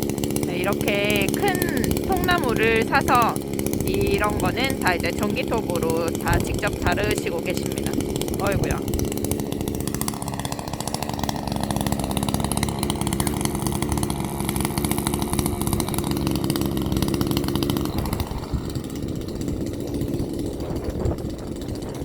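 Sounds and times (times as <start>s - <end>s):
chainsaw cutting through log: 0.0s - 22.0s.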